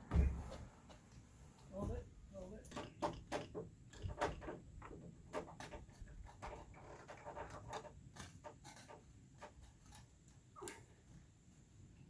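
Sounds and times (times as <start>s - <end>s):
light clicks and knocks: 0.1s - 10.4s.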